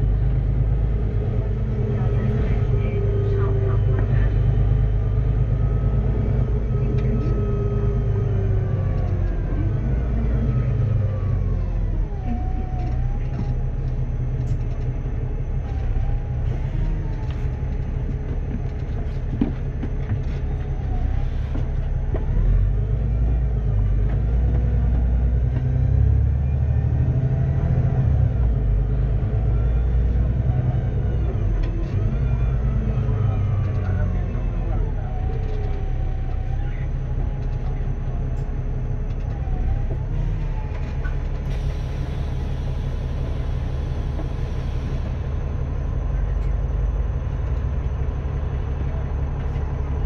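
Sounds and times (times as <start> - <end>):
bus diesel engine rumbling: 0.0 - 50.0
engine and driveline whine: 0.0 - 50.0.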